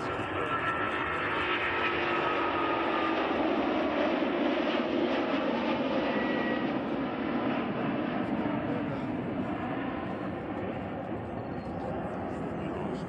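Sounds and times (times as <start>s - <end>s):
jet engines at takeoff thrust: 0.0s - 13.0s.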